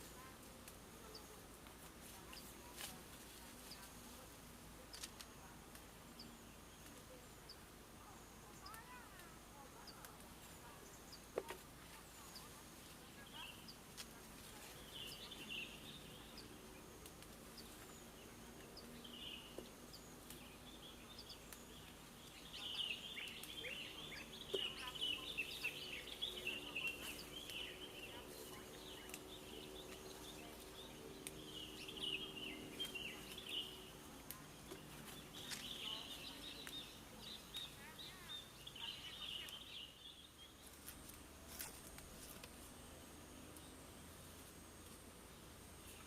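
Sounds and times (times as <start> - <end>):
faint low hum: 0.0 - 46.0
small birds chirping: 0.0 - 46.0.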